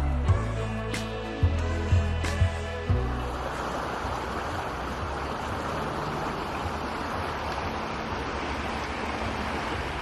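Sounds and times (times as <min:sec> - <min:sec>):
fast-flowing water rushing: 0:00.0 - 0:10.0.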